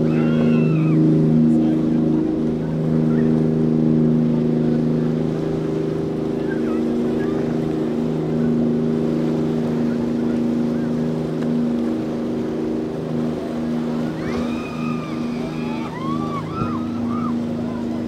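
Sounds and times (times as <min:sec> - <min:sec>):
motorboat engines droning: 0:00.0 - 0:18.0.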